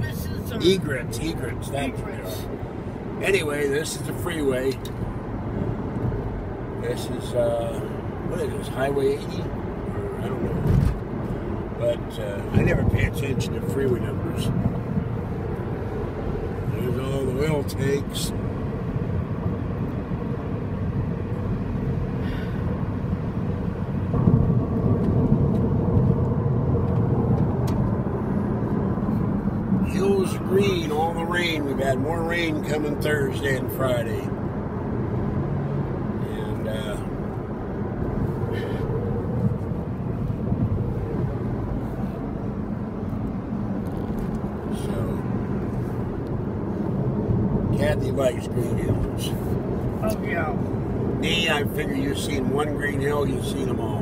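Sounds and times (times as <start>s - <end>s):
car interior road rumble: 0.0s - 54.0s.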